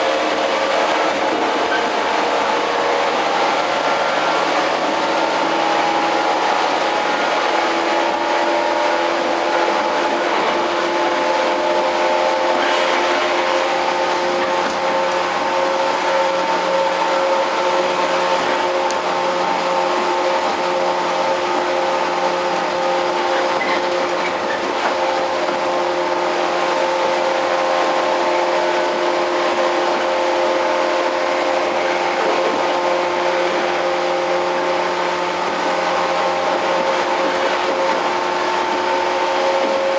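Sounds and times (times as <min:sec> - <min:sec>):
train traction motor whine: 0:00.0 - 0:39.9
wheels rumbling on rail: 0:00.0 - 0:39.9.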